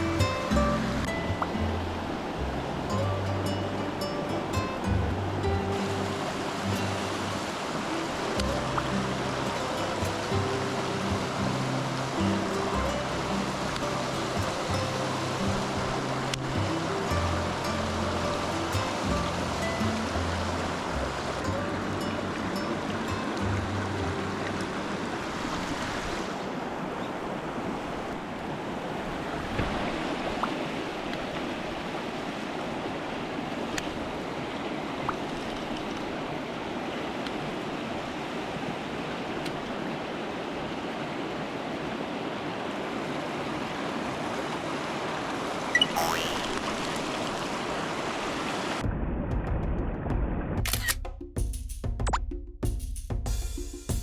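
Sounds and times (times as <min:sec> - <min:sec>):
stream water rushing: 0:00.0 - 0:48.8.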